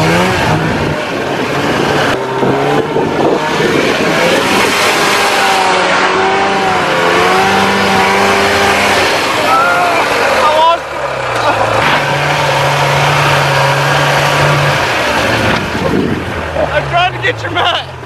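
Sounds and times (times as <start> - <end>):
snowmobile engine under throttle: 0.0 - 17.8
track churning snow: 0.0 - 18.0.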